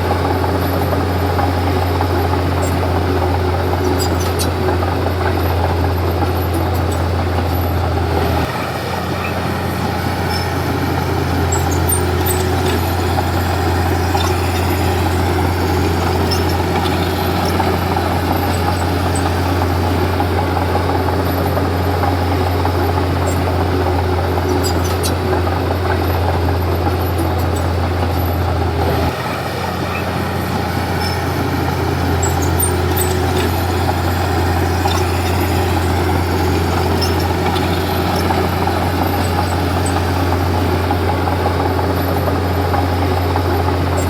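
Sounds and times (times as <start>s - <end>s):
bulldozer diesel engine humming: 0.0s - 44.0s.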